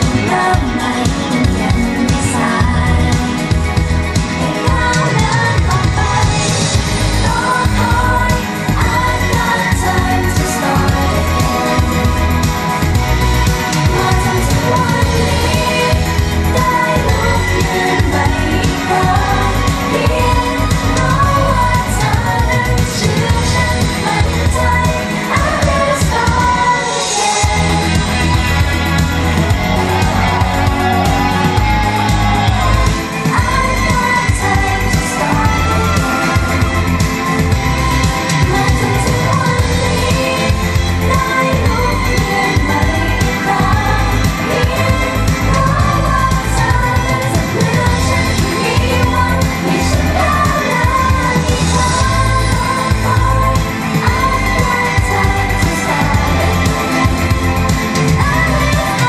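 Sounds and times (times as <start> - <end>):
amplified pop music with beat: 0.0 - 59.0
women singing into microphones: 0.0 - 59.0.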